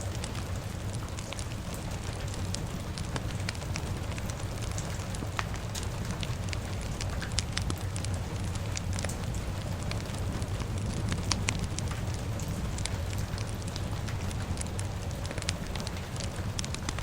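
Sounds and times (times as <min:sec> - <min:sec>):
fire crackling: 0:00.0 - 0:17.0
steady rain: 0:00.0 - 0:17.0.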